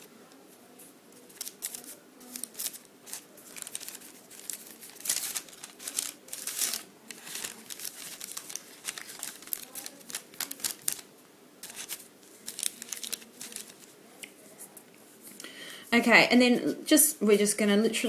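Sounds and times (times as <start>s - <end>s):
baking paper crinkling: 0.0s - 14.7s.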